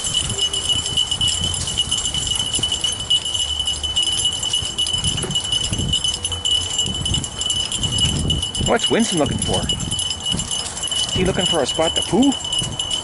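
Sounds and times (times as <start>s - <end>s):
small bell jingling: 0.0s - 13.0s.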